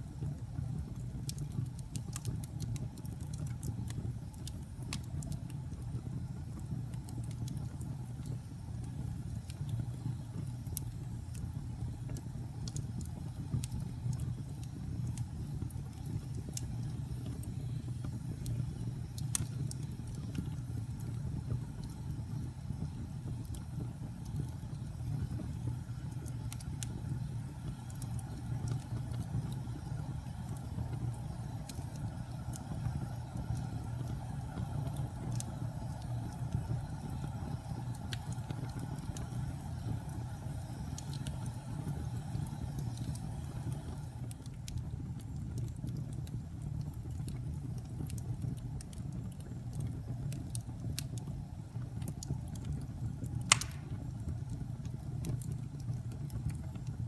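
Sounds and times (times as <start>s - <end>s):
fire crackling and popping: 0.0s - 57.0s
wood fire flames rushing: 0.0s - 57.0s.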